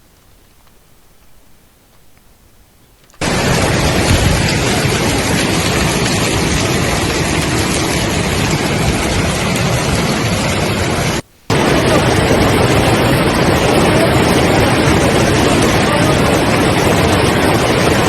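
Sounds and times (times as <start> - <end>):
hailstones pounding down: 3.2 - 18.0.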